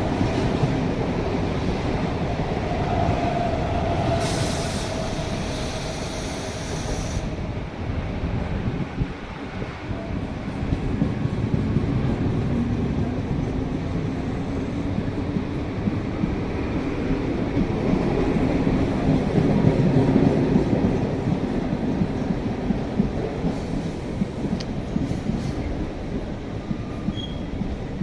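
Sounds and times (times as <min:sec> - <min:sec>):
electric train rumbling on track: 0:00.0 - 0:28.0.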